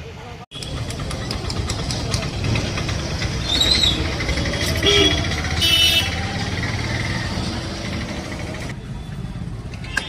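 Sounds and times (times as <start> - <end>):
motorbike engine rumbling: 0.5 - 10.0.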